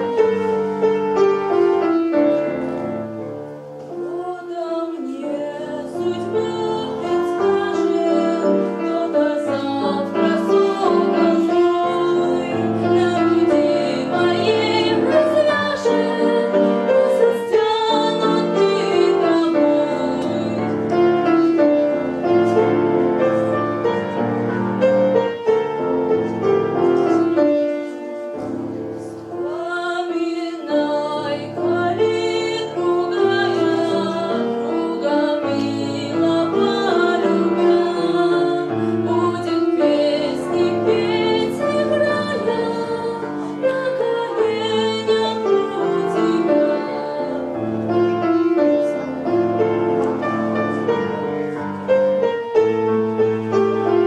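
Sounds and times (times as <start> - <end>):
girl singing classical song: 0.0 - 54.0
piano accompaniment: 0.0 - 54.0.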